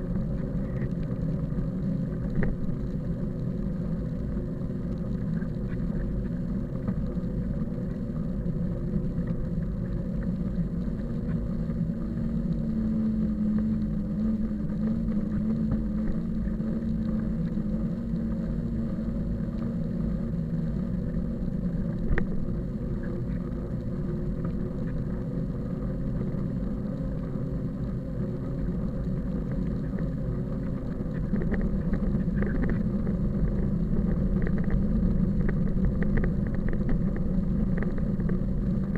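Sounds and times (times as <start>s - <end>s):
motor running with low rumble: 0.0s - 38.9s.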